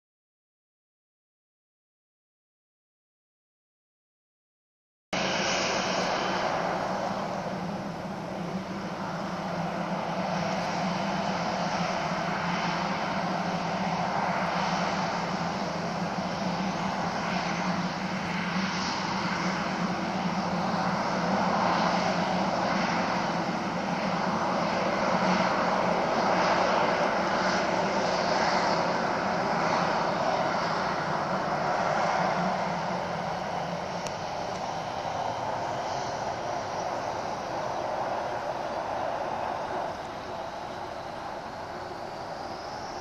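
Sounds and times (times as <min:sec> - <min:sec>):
jet engines roaring: 0:05.2 - 0:43.0.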